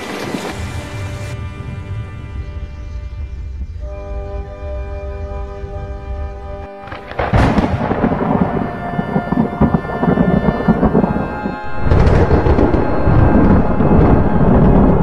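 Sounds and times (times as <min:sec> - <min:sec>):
thunder clap and rumble: 0:00.0 - 0:15.0
soft background music: 0:00.2 - 0:15.0.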